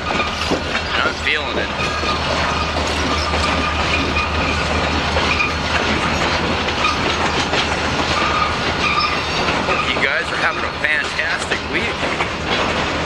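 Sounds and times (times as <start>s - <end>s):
diesel locomotive drone: 0.0s - 13.0s
freight cars clattering over rails: 0.0s - 13.0s.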